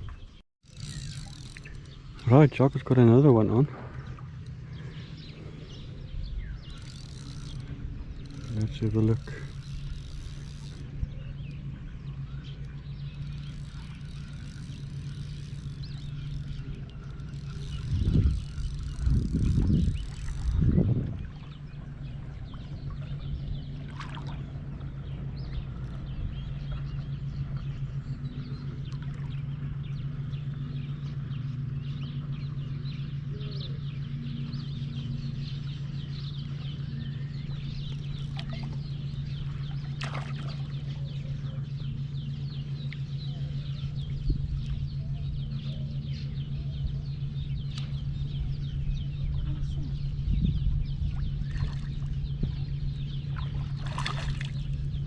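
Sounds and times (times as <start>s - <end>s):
birds calling and chattering: 0.0s - 55.0s
steady low hum: 0.0s - 55.0s.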